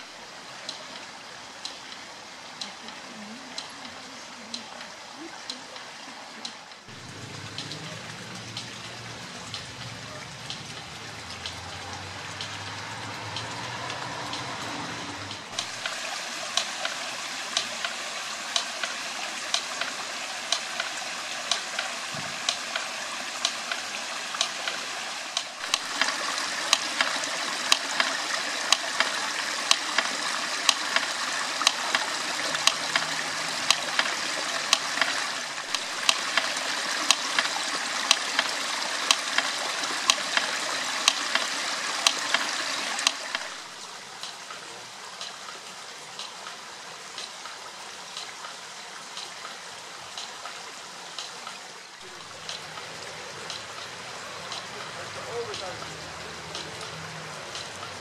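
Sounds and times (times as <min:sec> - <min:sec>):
water splashing over mill wheel: 0:00.0 - 0:58.0
mill clapper clacking: 0:00.6 - 0:45.6, 0:51.2 - 0:58.0.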